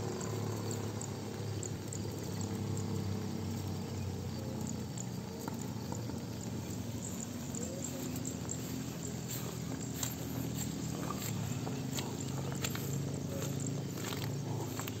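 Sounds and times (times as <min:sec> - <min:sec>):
insect chirps: 0:00.0 - 0:15.0
steady low hum: 0:00.0 - 0:15.0.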